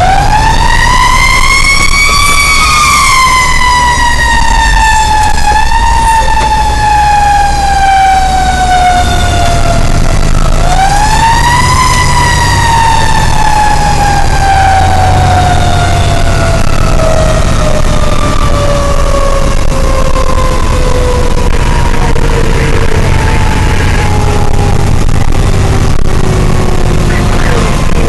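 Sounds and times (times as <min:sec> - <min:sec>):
siren wailing: 0:00.0 - 0:28.0
truck engine rumble: 0:00.0 - 0:28.0.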